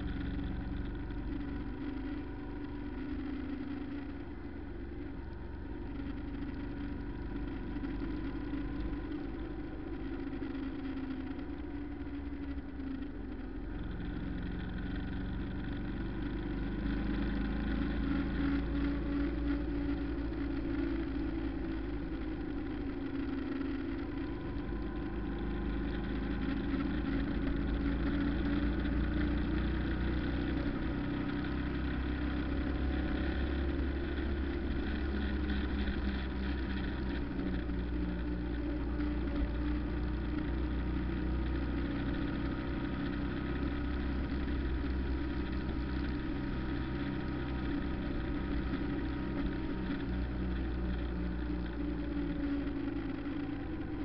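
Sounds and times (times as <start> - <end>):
road and tyre rumble: 0.0 - 54.0
vehicle engine running: 0.0 - 54.0.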